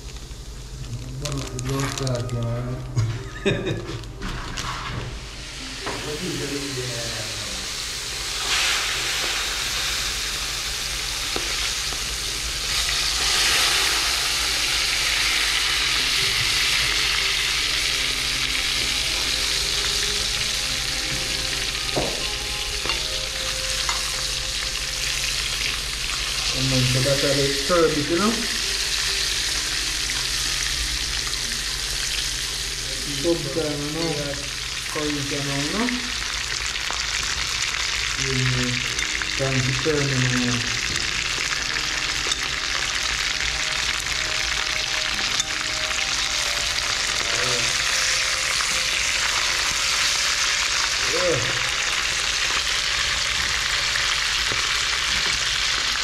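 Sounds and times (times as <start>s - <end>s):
curry sizzling in hot oil: 3.5s - 56.0s.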